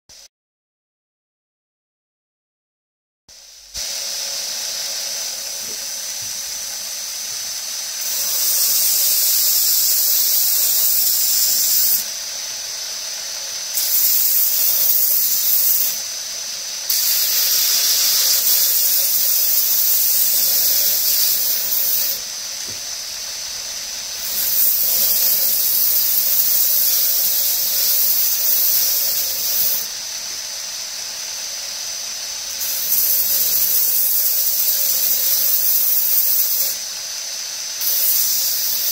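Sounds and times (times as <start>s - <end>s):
grinding hiss: 3.3s - 38.9s
belt grinder whine: 3.8s - 38.9s.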